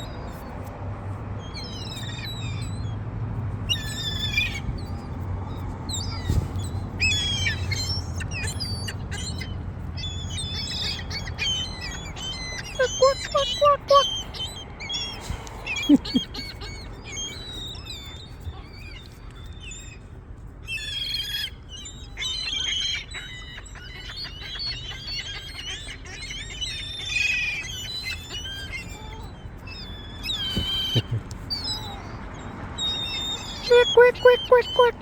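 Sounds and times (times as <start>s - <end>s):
seagulls calling: 3.7s - 4.8s, 5.9s - 19.9s, 20.7s - 35.0s.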